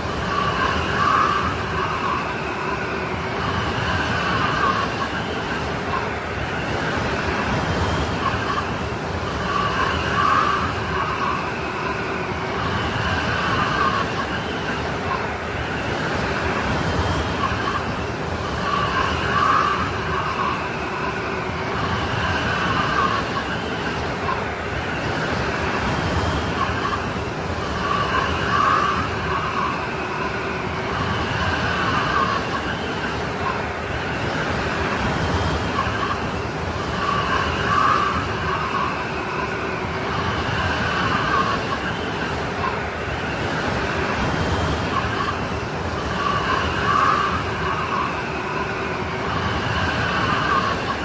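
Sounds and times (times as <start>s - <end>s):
strong wind whistling: 0.0s - 51.0s.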